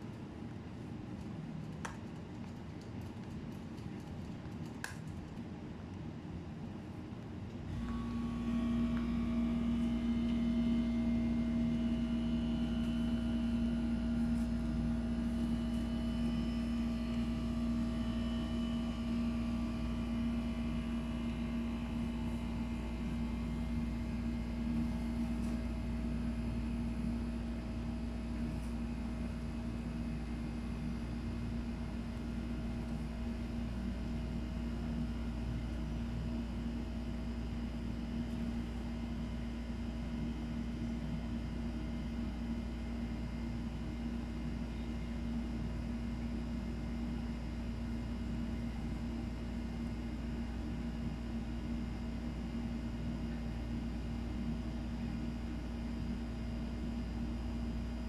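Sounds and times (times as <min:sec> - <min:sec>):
low mechanical drone hum: 0:00.0 - 0:58.0.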